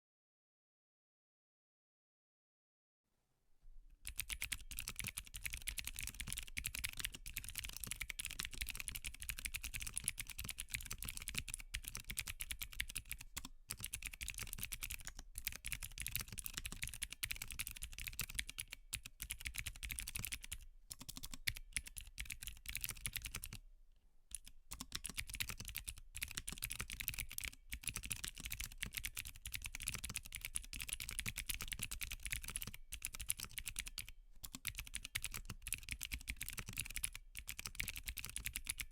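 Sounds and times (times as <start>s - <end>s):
fast clicky keyboard typing: 4.0s - 23.6s, 24.3s - 38.9s.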